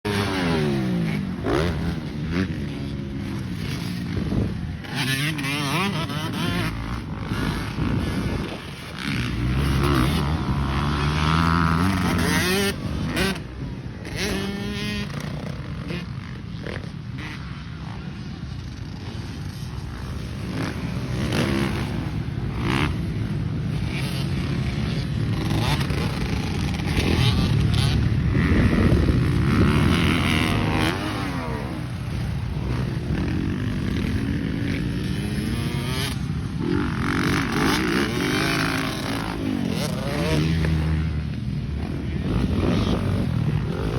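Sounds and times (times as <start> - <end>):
dirt bike engine revving: 0.1 - 17.7, 19.0 - 43.9.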